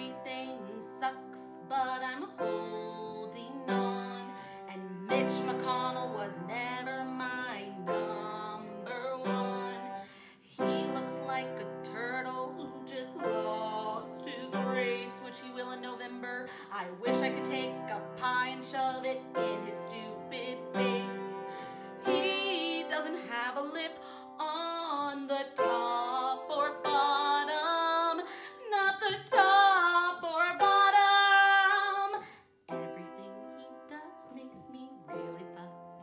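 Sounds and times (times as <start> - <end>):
upright piano accompaniment: 0.0 - 32.1
woman singing: 0.0 - 36.0.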